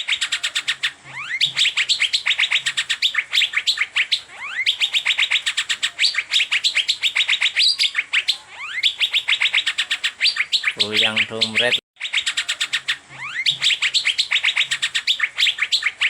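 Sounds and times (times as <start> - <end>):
bird singing sharp chirps: 0.0 - 16.0.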